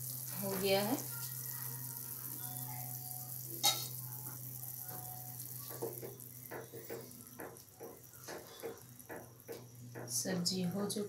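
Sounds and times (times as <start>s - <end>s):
water simmering in a pan: 0.0s - 11.0s.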